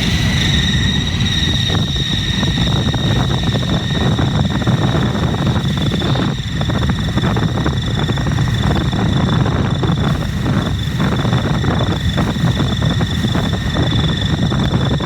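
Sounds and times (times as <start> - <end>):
high-pitched whine: 0.0 - 15.0
road traffic rumble: 0.0 - 15.0.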